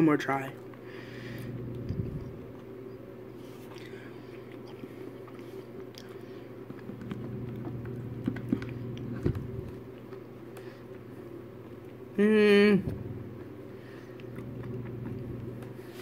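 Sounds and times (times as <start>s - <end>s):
steady low hum: 0.0s - 16.0s
soft chewing: 0.5s - 12.2s, 12.9s - 16.0s.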